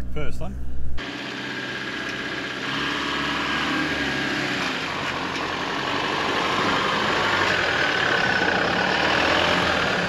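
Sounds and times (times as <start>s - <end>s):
truck engine running at low revs: 0.0s - 10.0s.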